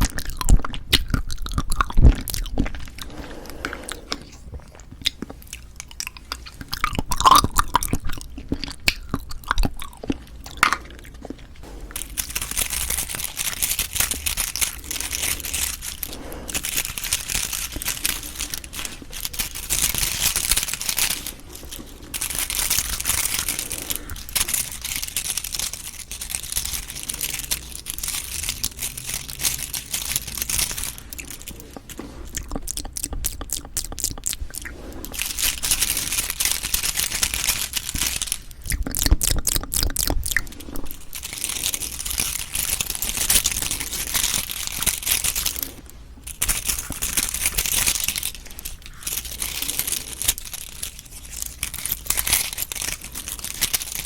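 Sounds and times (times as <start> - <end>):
plastic crinkling: 0.0 - 54.0
wet squishing of jelly: 0.0 - 54.0.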